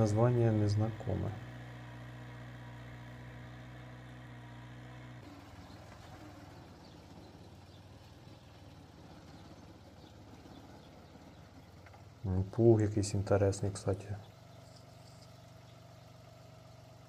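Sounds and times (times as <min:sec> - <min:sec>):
tractor engine droning: 0:00.0 - 0:17.0
tractor engine under load: 0:00.0 - 0:17.0.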